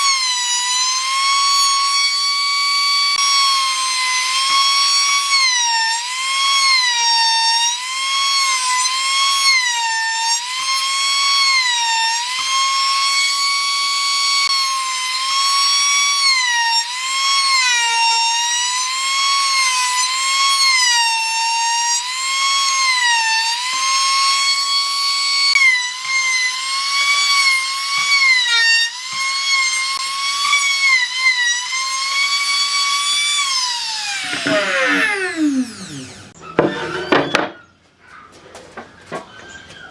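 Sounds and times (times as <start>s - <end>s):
power tool whining on wood: 0.0s - 37.8s.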